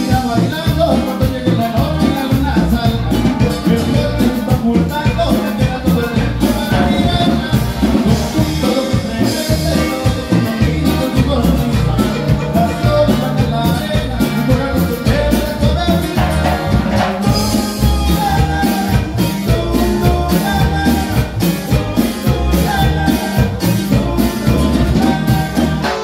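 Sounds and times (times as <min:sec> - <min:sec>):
loud dance music: 0:00.9 - 0:26.0.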